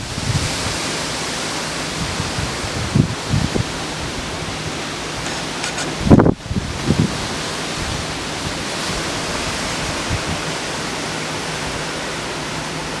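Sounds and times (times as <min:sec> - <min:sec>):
wind buffeting microphone: 0:00.0 - 0:11.0
gusty wind: 0:00.0 - 0:13.0
rain: 0:00.0 - 0:13.0.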